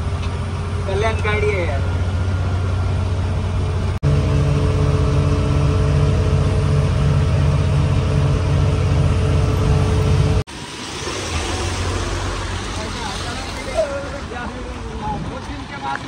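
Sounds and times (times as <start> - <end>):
truck engine droning under load: 0.0 - 14.4.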